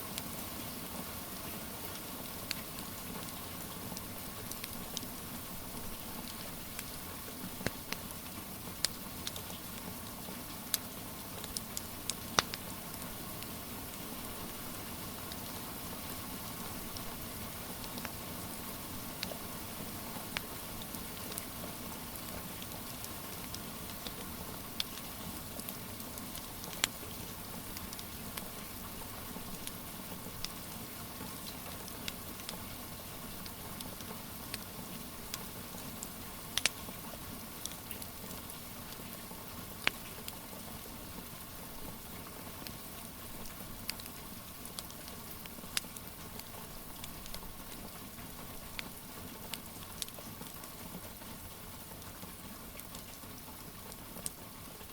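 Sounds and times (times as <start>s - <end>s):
wood fire crackling: 1.8s - 18.2s, 19.2s - 51.2s.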